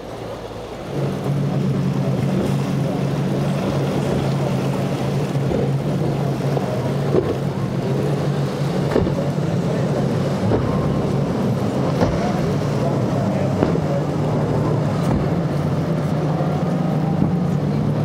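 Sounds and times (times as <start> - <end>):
boat splash through wave: 0.0 - 18.0
outboard engines droning: 0.0 - 18.0
water rushing off hull: 0.0 - 18.0.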